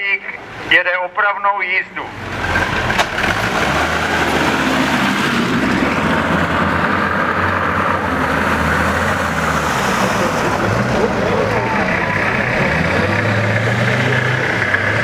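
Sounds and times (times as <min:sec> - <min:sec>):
tractor engine under load: 0:02.0 - 0:15.0.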